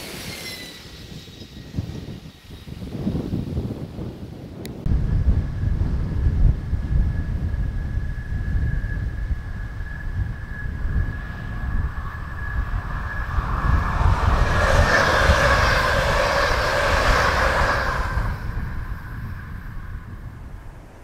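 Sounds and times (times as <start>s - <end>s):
electric train passing: 0.0s - 21.0s
wind rumble on microphone: 0.8s - 21.0s.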